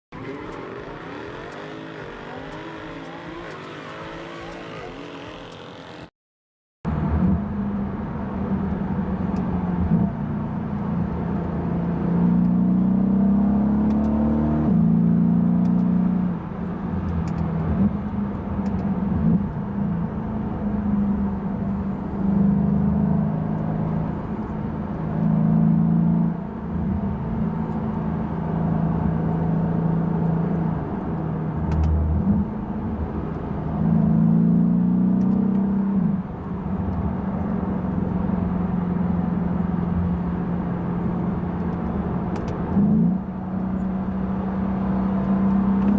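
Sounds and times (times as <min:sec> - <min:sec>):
car engine accelerating hard: 0:00.1 - 0:06.1, 0:06.9 - 0:16.4, 0:17.2 - 0:45.9.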